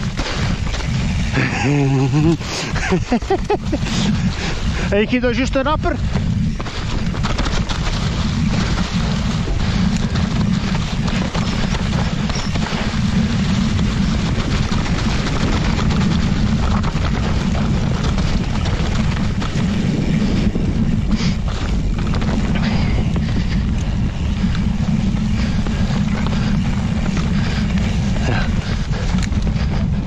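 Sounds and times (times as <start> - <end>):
bike rattling over ground: 0.0 - 30.0
low wind rumble: 0.0 - 30.0
tyres crackling through leaves: 0.0 - 30.0.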